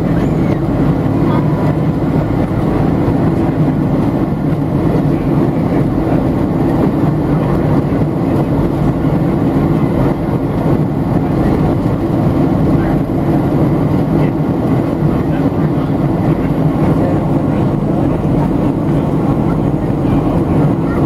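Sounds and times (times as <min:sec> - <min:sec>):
airflow around aircraft fuselage: 0:00.0 - 0:21.0
jet engine drone: 0:00.0 - 0:21.0.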